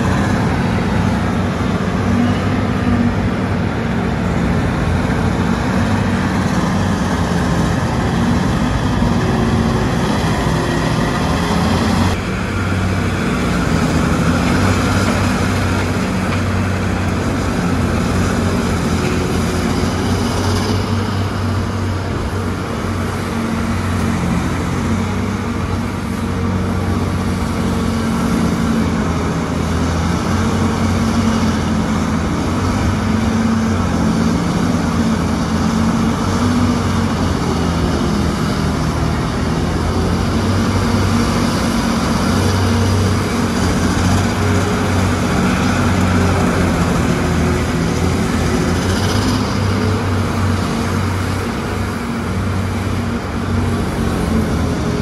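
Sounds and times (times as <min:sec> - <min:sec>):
mining shovel engine droning: 0:00.0 - 0:55.0.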